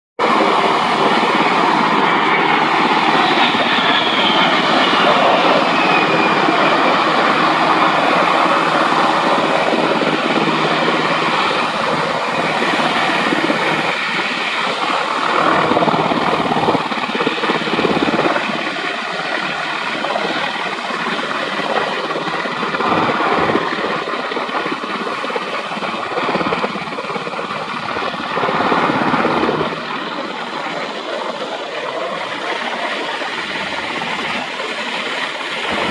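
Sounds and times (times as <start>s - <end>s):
helicopter flying: 0.2s - 35.9s
high turbine whine: 0.2s - 35.9s.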